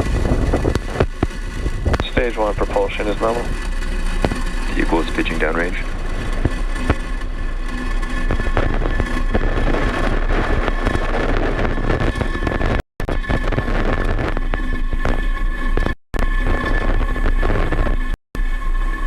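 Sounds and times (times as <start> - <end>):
rocket engines crackling rumble: 0.0 - 19.0.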